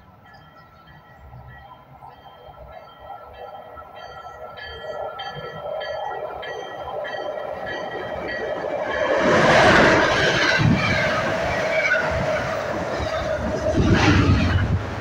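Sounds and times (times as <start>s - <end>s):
train arriving with a rush: 0.0s - 15.0s.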